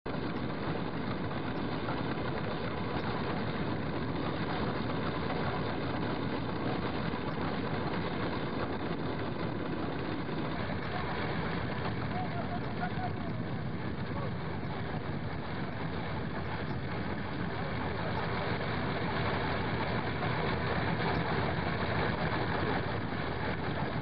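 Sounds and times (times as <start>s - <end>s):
boat engine idling: 0.1s - 24.0s.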